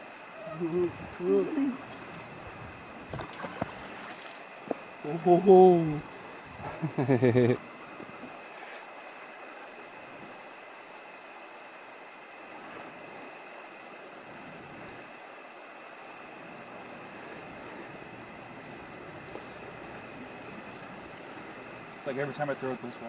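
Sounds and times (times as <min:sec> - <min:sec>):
high steady insect trills: 0:00.0 - 0:23.0
pulsing insect chirp: 0:00.0 - 0:23.0.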